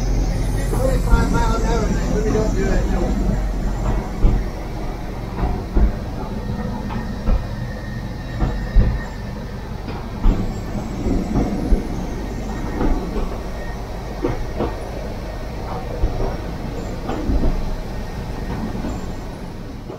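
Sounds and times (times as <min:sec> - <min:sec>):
rail car engine rumble: 0:00.0 - 0:19.9
knocks and rattles over rails: 0:02.0 - 0:19.9.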